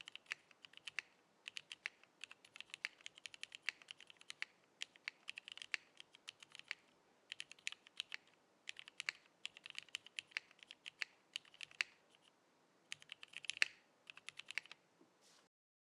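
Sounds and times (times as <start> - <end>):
typing on mechanical keyboard: 0.0 - 12.2, 12.9 - 14.8.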